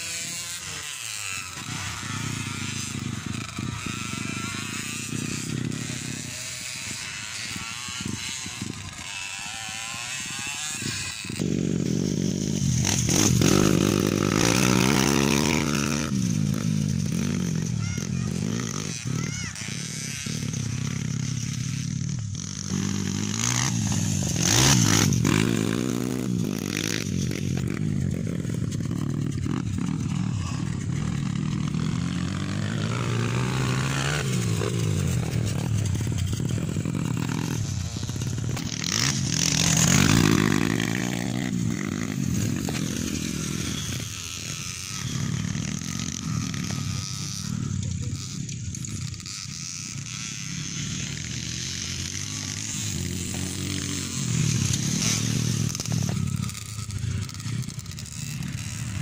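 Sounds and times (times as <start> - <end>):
motocross engines revving: 0.0 - 59.0.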